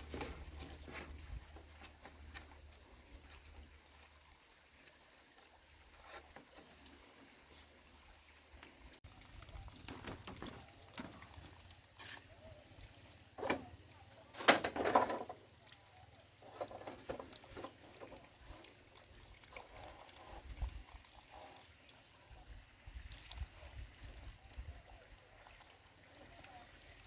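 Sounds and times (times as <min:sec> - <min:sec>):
water pouring and splashing: 0:00.0 - 0:27.0
water trickling: 0:00.0 - 0:27.0.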